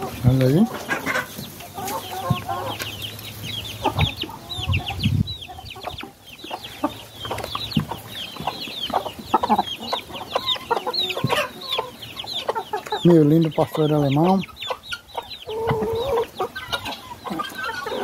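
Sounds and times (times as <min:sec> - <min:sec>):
chickens clucking: 0:00.0 - 0:18.0
high chick peeps: 0:00.0 - 0:18.0.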